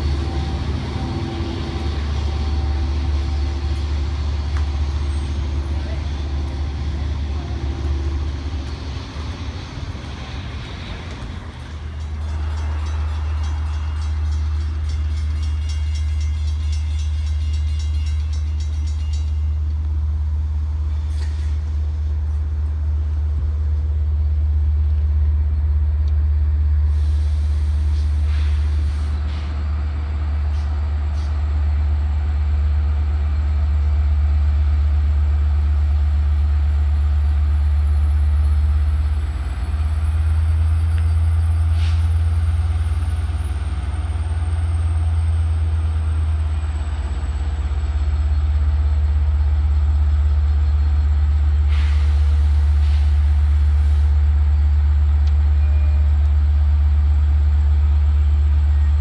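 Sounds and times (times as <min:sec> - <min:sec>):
diesel train rumbling: 0:00.0 - 0:59.0.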